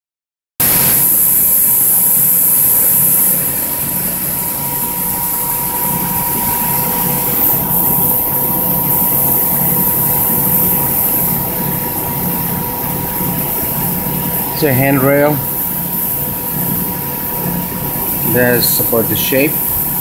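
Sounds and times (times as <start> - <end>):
shop machinery humming: 0.6 - 20.0.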